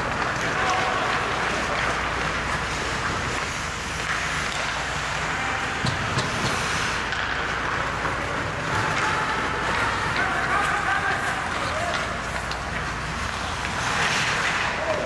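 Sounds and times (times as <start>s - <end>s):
skates scraping ice: 0.0s - 15.0s
sticks clicking on puck: 0.0s - 15.0s.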